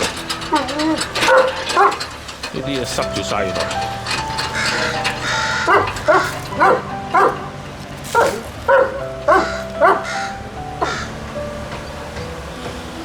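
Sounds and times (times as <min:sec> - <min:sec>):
background music with held notes: 0:00.0 - 0:13.0.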